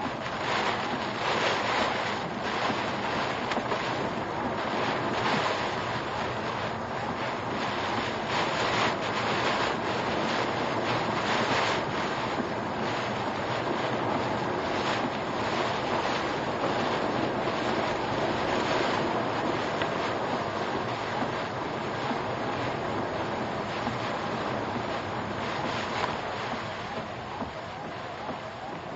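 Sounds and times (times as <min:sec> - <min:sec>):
wind and rain buffeting a car: 0:00.0 - 0:28.9.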